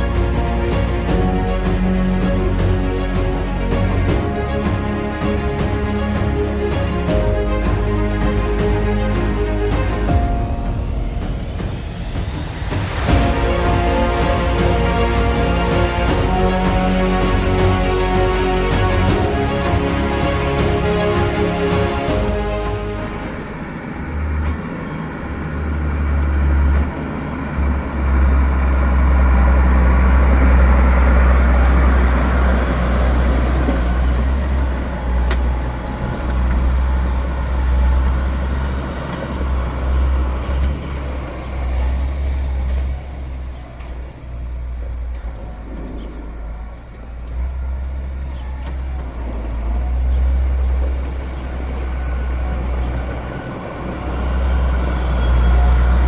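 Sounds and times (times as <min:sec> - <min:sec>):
farm vehicle engine rumbling: 0:00.0 - 0:56.0.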